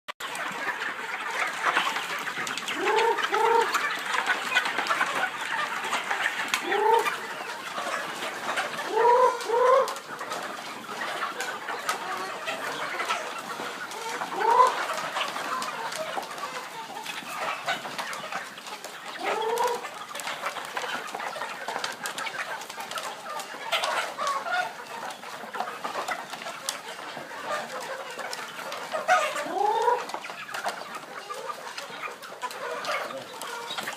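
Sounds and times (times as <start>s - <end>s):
chicken rising calls: 0.2s - 33.9s
chickens clucking: 0.2s - 33.9s.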